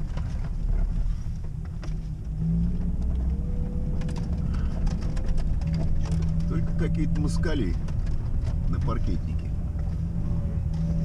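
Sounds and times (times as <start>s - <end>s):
light knocks and rattles: 0.0s - 11.0s
low rumble of engine and tyres: 0.0s - 11.0s.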